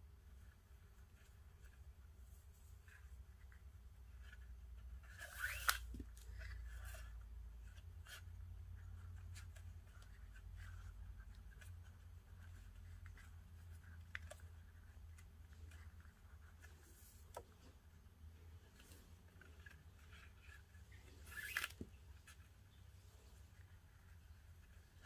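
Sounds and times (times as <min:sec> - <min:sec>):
cord rustling and sliding: 0:00.3 - 0:25.0.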